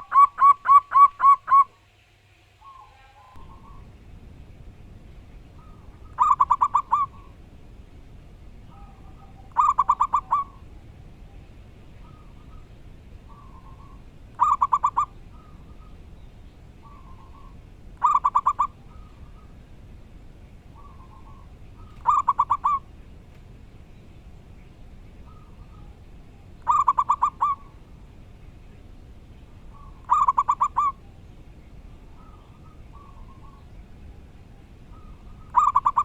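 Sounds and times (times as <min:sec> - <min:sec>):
doves cooing: 0:00.0 - 0:01.8, 0:02.6 - 0:36.0.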